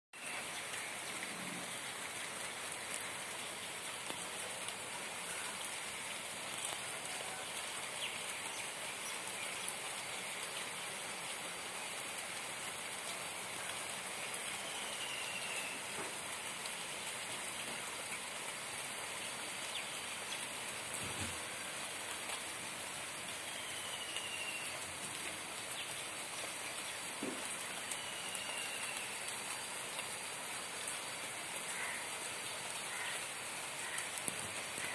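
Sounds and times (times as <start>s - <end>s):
rain on leaves: 0.1s - 34.9s.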